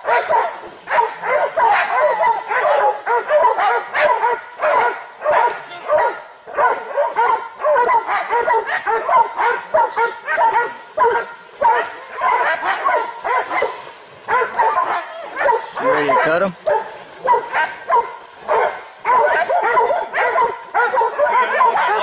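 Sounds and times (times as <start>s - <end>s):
dogs barking and yelping: 0.0s - 22.0s.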